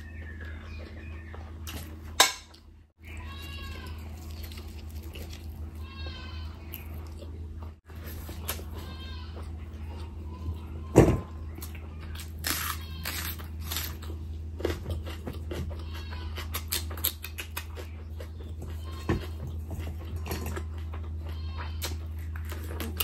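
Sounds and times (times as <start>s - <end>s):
wet chewing: 0.0s - 10.8s, 11.5s - 23.0s.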